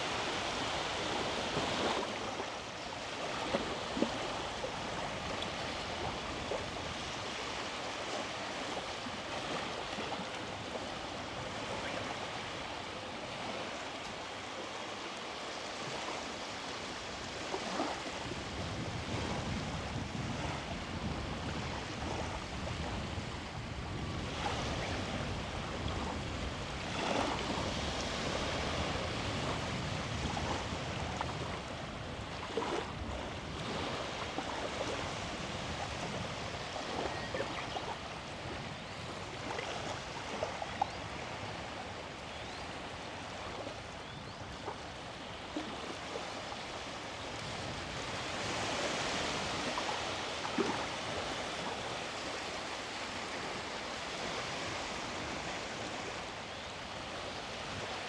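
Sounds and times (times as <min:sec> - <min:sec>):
sea waves breaking on shore: 0:00.0 - 0:58.0.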